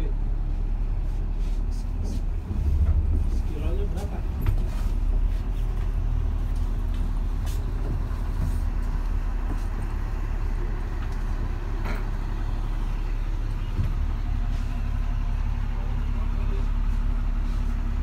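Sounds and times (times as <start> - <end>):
vehicle engine and road drone: 0.0 - 18.0.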